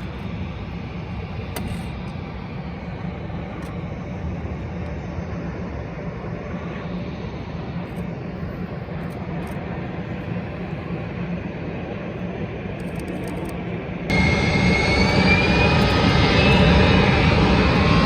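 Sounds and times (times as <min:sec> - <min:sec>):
jet engine rumble: 0:00.0 - 0:18.0.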